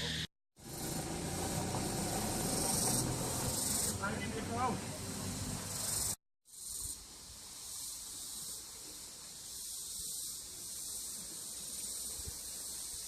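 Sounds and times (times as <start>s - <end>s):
high-pitched hiss: 1.9s - 13.0s.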